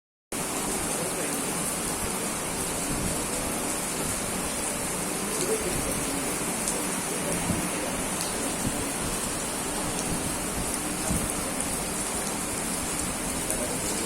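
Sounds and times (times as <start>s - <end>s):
rain splashing on hard surfaces: 0.4s - 14.0s.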